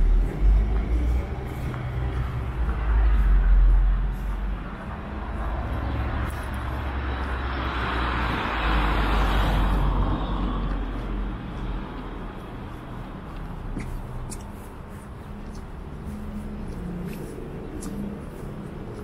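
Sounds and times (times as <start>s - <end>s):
deep car rumble: 0.0s - 19.0s
passing car tyre noise: 0.0s - 19.0s.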